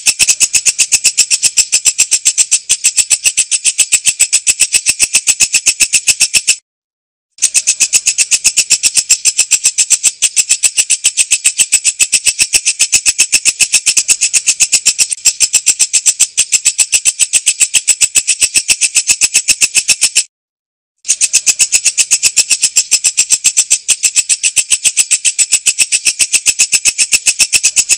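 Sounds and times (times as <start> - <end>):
katydid ticking: 0.0 - 6.6, 7.4 - 20.3, 21.1 - 27.9.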